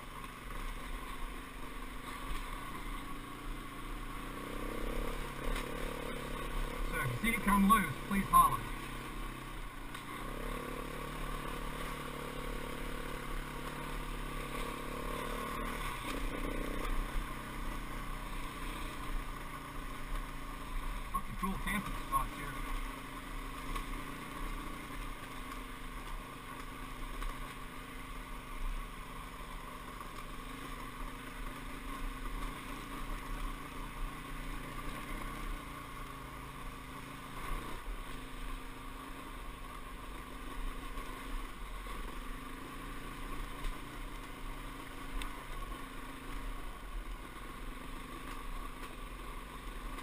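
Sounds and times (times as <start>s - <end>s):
dirt bike engine running: 0.0s - 50.0s.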